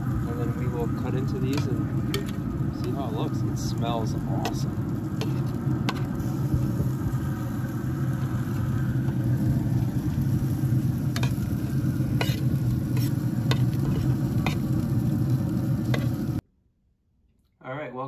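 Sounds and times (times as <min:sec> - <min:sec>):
low rumble with hum: 0:00.0 - 0:17.4.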